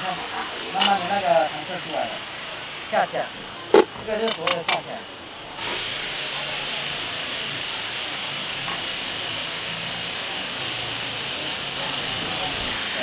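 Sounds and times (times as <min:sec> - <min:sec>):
sausages sizzling in hot oil: 0:00.0 - 0:03.3, 0:04.6 - 0:13.0.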